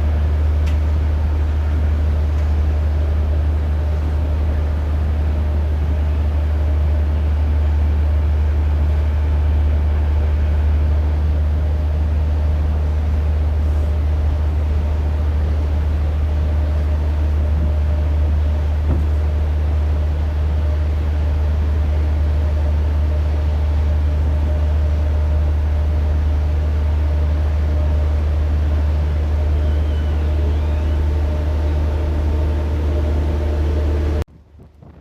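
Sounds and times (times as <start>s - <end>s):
ferry engines droning: 0.0s - 35.0s.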